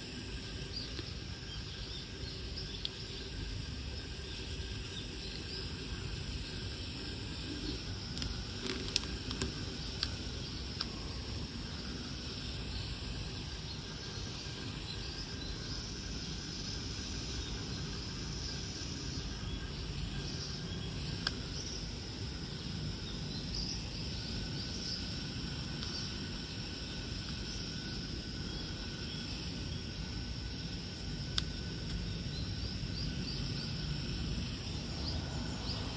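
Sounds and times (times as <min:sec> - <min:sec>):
faint chirps: 0:00.0 - 0:35.9.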